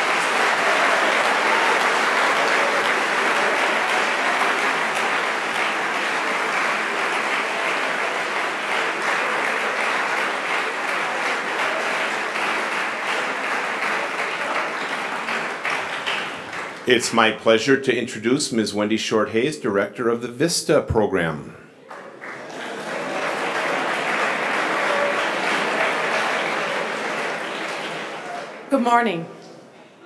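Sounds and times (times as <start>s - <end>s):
audience applauding: 0.0s - 17.6s, 21.8s - 29.2s.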